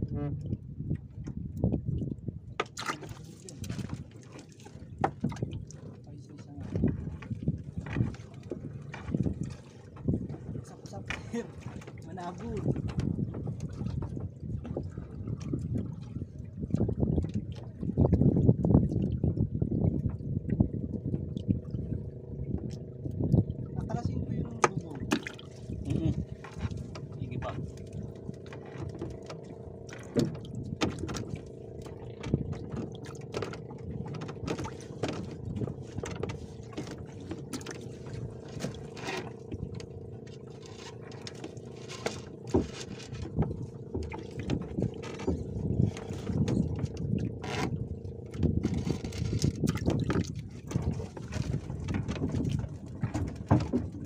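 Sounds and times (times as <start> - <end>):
water sloshing and splashing: 0.0 - 54.0.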